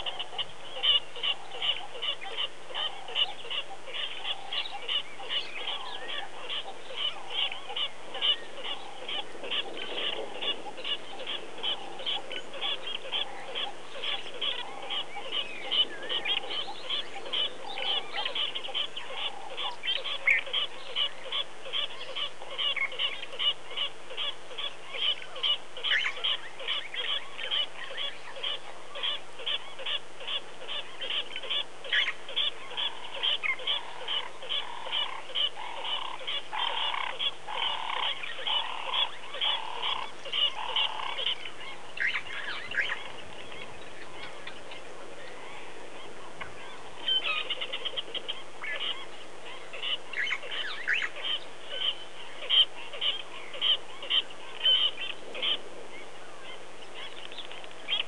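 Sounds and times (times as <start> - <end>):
lower bird calls: 0.0 - 58.0.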